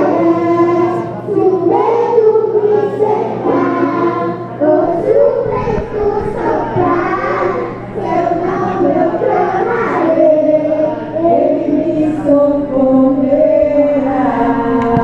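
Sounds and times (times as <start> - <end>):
children singing through pa system: 0.0 - 15.0.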